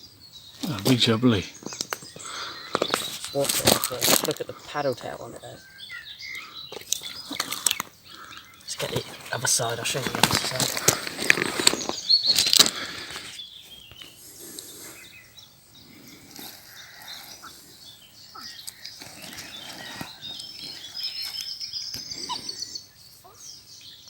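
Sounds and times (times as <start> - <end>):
small birds singing: 0.0 - 24.0
faint rustling: 0.6 - 5.5, 6.7 - 15.1, 15.8 - 22.6.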